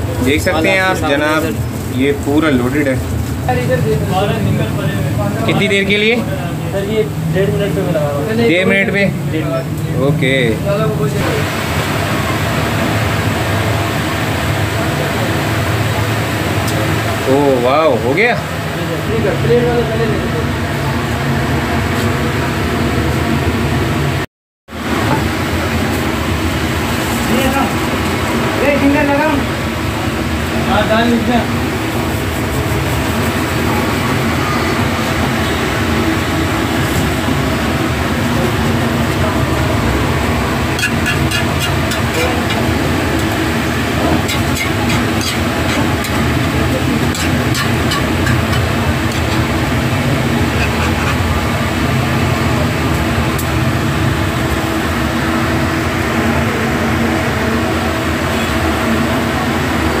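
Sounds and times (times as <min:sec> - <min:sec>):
loud mechanical drone: 0:00.0 - 1:00.0.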